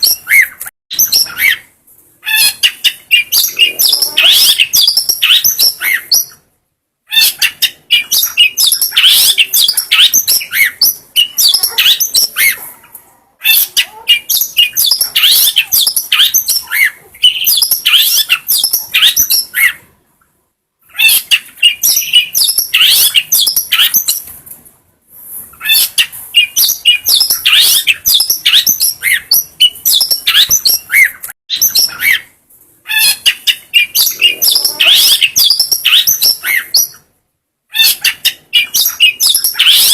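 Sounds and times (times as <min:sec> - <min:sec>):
bird chattering and whistling: 0:00.0 - 0:06.4, 0:07.1 - 0:12.7, 0:13.4 - 0:19.8, 0:20.9 - 0:24.3, 0:25.6 - 0:32.3, 0:32.9 - 0:37.1, 0:37.7 - 0:39.9.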